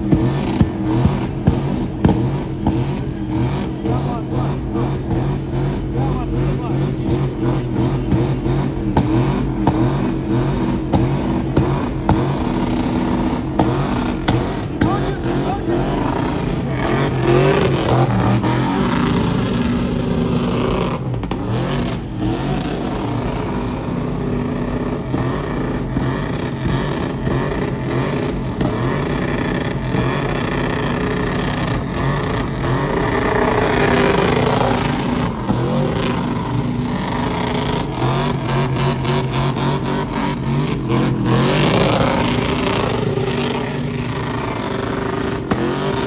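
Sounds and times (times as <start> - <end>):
vehicle engines revving: 0.0 - 46.0.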